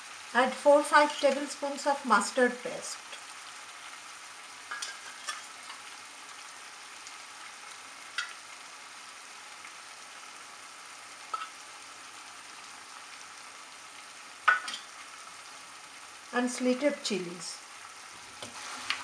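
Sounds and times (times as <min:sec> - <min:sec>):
meat sizzling in a pot: 0:00.0 - 0:19.0.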